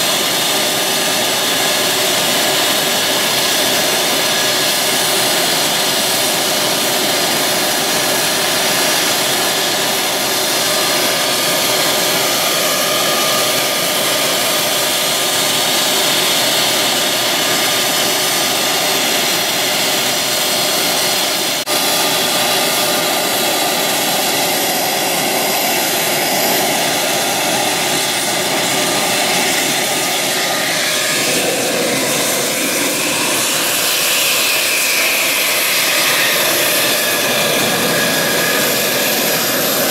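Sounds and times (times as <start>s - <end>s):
high turbine whine: 0.0s - 39.9s
jet engine roar: 0.0s - 39.9s.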